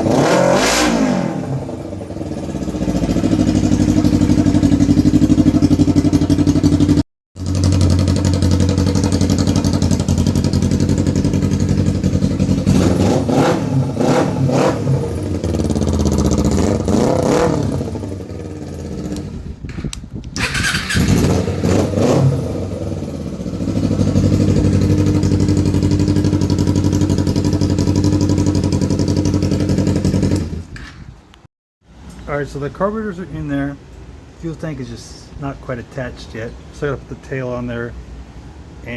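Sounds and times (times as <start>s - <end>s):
motorcycle engine idling and revving: 0.0s - 31.4s.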